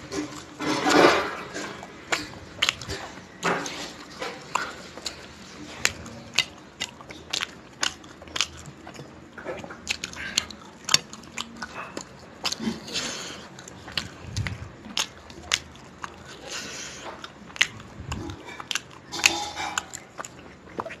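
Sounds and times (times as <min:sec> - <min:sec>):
fingers picking at food: 0:00.0 - 0:21.0
man chewing with mouth open: 0:00.0 - 0:21.0.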